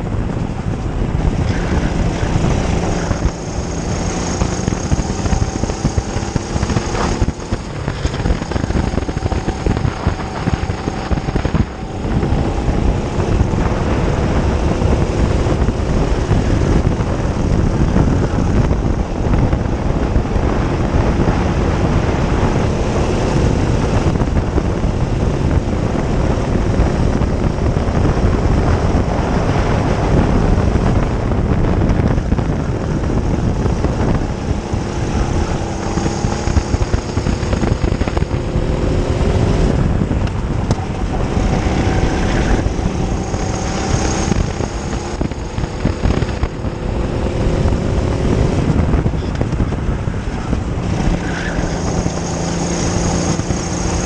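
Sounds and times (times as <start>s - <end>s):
kart engine running hard: 0.0s - 54.0s
rush of noise: 0.0s - 54.0s.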